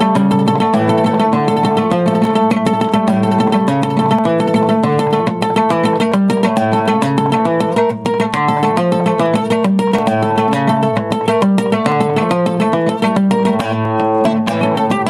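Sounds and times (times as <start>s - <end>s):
picked string instrument melody: 0.0s - 15.0s.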